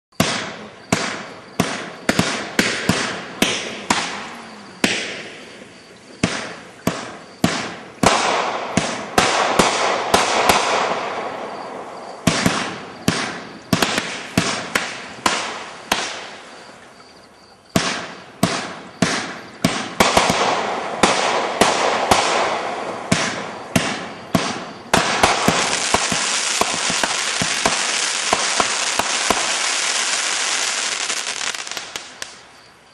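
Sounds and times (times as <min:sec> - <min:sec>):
firework cake shots: 0:00.2 - 0:05.4, 0:06.2 - 0:16.4, 0:17.8 - 0:32.4
firework crackle: 0:00.2 - 0:16.9, 0:17.8 - 0:32.7.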